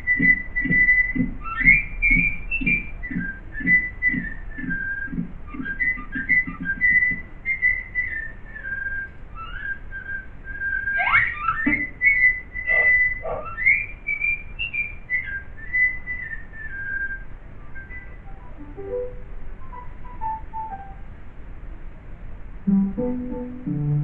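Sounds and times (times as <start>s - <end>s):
whistled tune: 0.0s - 21.0s, 22.7s - 24.0s.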